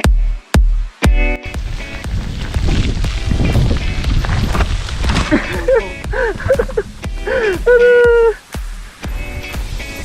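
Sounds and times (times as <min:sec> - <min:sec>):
wind rumbling on microphone: 0:01.4 - 0:10.0.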